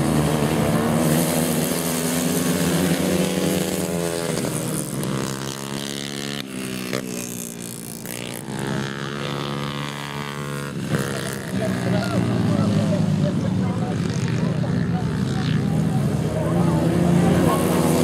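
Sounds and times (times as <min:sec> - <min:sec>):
motorcycles racing at full throttle: 0:00.0 - 0:18.0.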